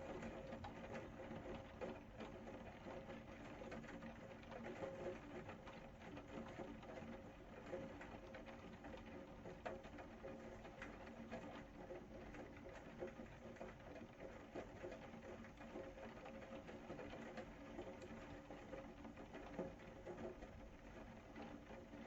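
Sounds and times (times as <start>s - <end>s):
rain drops pattering: 0.0s - 22.0s.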